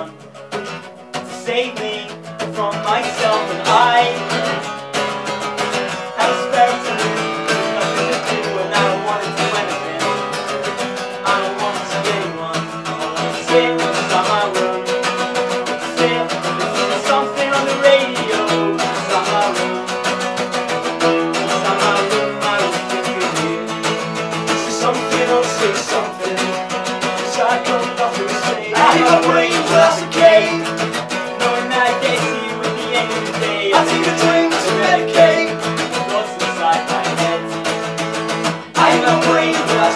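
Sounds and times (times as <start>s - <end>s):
acoustic guitars strumming: 0.0s - 39.9s.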